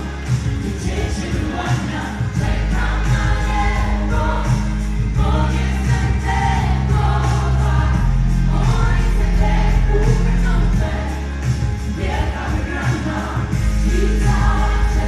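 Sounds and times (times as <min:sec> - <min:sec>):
bass line: 0:00.0 - 0:15.0
voices singing in harmony: 0:00.0 - 0:15.0
drum beat: 0:00.1 - 0:15.0.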